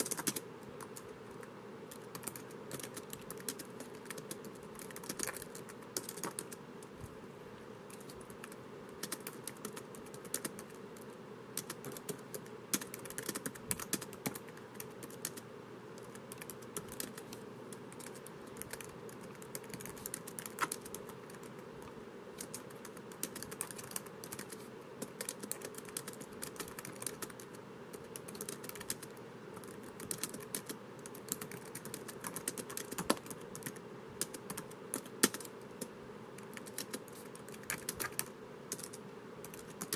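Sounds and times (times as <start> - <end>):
typing on laptop keyboard: 0.0 - 6.6, 7.9 - 15.4, 16.0 - 21.6, 22.4 - 39.9
steady low hiss: 0.0 - 39.9.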